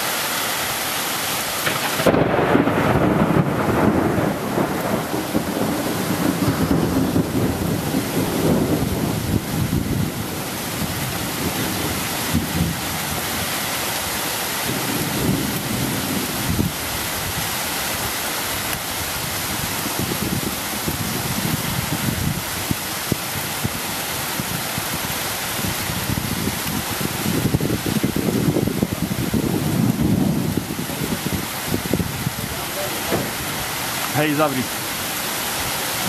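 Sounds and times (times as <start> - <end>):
heavy rain hissing: 0.0 - 36.0
wind gusts buffeting microphone: 1.6 - 36.0.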